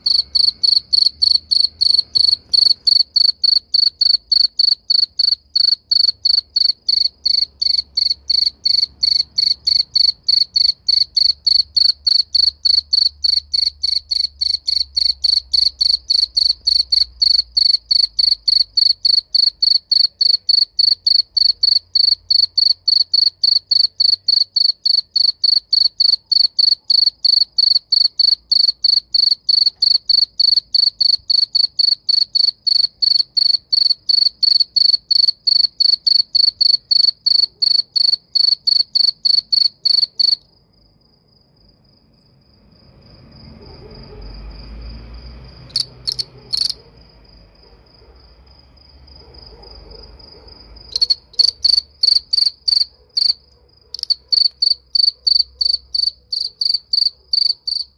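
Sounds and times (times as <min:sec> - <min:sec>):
cricket chirping loudly: 0:00.0 - 0:57.9
faint cricket trill: 0:00.0 - 0:57.9.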